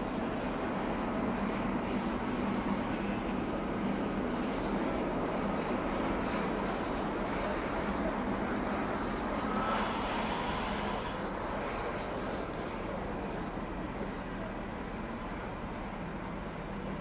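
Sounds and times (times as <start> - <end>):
jet engines running low power: 0.0 - 17.0.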